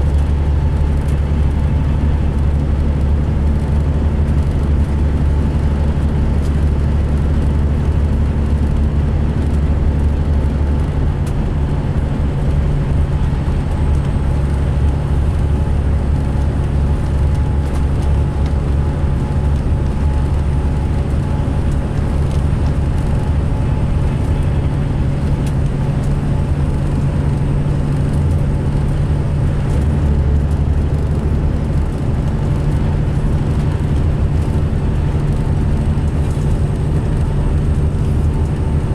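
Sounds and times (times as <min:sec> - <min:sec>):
diesel bus engine droning: 0:00.0 - 0:38.9.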